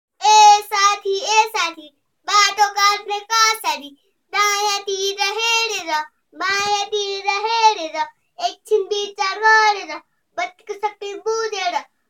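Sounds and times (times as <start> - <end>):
boy singing unaccompanied: 0.2 - 12.0.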